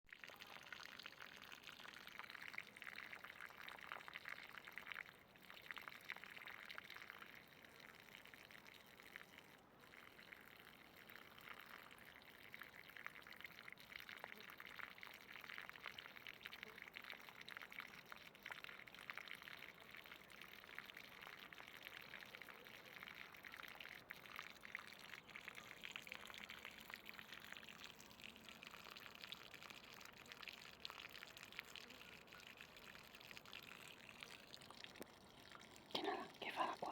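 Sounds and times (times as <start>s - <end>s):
thin stream of running water: 0.1s - 36.9s.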